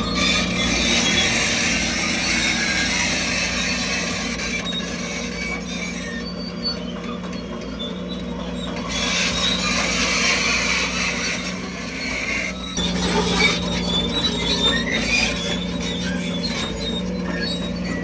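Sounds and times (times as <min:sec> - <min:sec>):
bulldozer diesel engine: 0:00.0 - 0:18.0
steel tracks squealing and clattering: 0:00.0 - 0:18.0.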